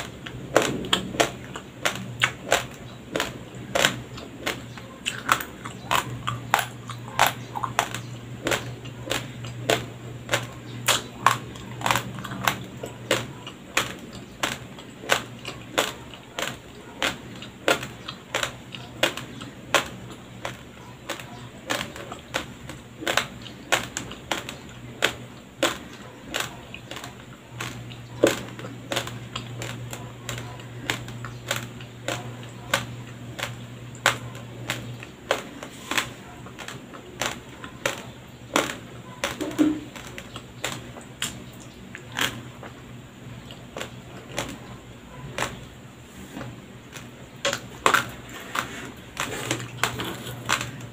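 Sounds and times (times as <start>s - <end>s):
rice crunching while chewed: 0.0s - 50.9s.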